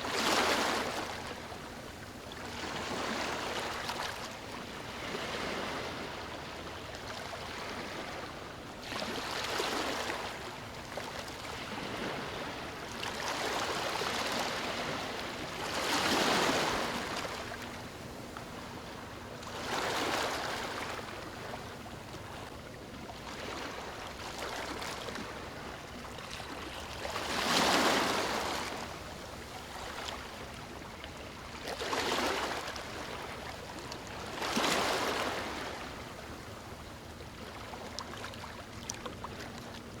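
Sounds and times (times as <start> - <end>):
small waves washing up a beach: 0.0 - 40.0.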